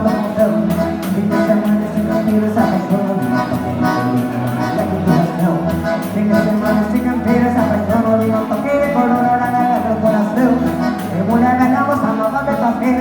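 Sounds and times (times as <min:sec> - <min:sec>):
accordion melody: 0:00.0 - 0:13.0
bass notes: 0:00.0 - 0:13.0
regular beat: 0:00.0 - 0:13.0.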